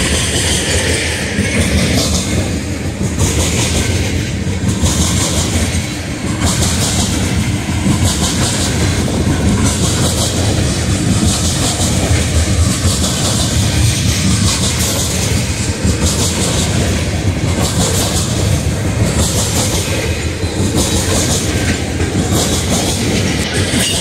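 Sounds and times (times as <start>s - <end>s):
freight train rumbling past: 0.0s - 24.0s
steel wheels clattering on rails: 0.0s - 24.0s.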